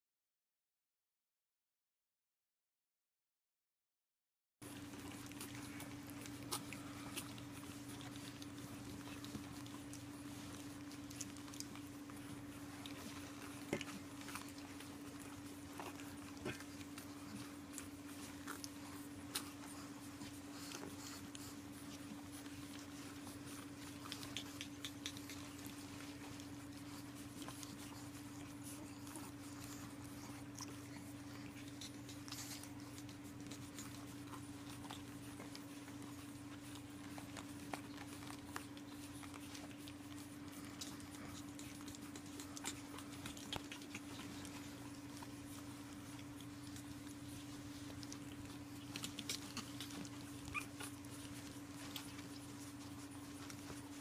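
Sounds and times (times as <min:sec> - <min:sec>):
steady low hum: 0:04.6 - 0:54.0
puppy claws scratching on a mat: 0:04.7 - 0:54.0.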